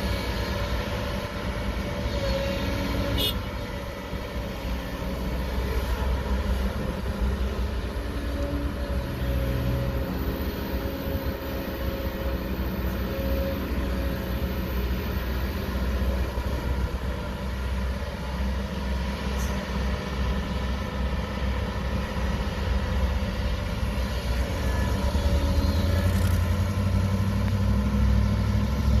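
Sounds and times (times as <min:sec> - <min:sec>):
heavy diesel machinery rumble: 0:00.0 - 0:29.0.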